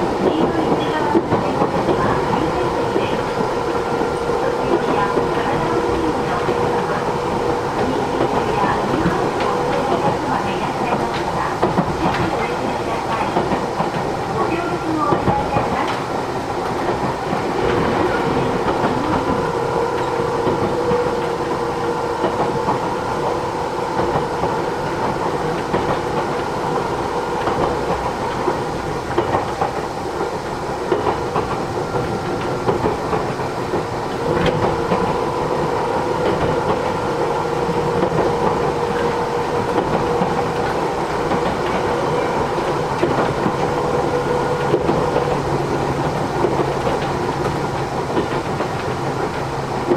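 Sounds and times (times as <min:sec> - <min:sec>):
clickety-clack over rail joints: 0:00.0 - 0:49.9
steady train hum: 0:00.0 - 0:49.9
train wheels rumbling on rails: 0:00.0 - 0:49.9.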